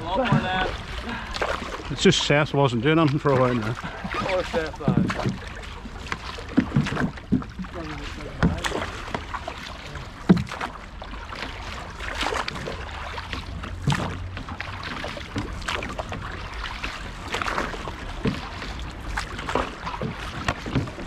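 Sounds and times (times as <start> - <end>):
paddles splashing in water: 0.0 - 21.0.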